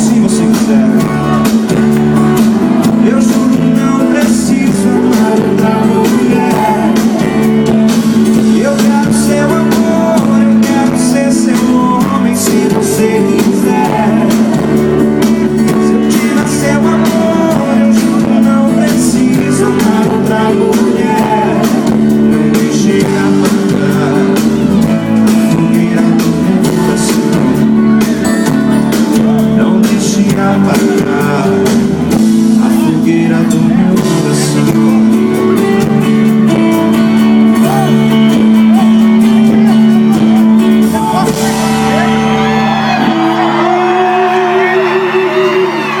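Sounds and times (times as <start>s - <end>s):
live band with guitars and singing: 0.0s - 46.0s.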